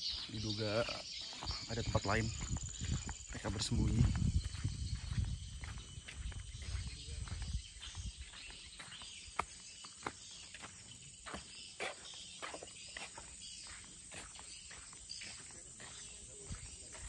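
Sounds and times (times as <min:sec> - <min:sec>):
footsteps on sandy dirt path: 0:00.0 - 0:17.0.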